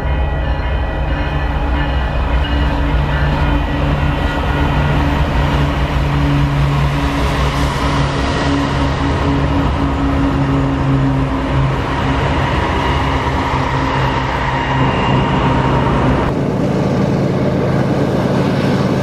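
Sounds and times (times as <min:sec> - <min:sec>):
diesel locomotives passing: 0:00.0 - 0:19.0
wheel and rail noise: 0:00.0 - 0:19.0.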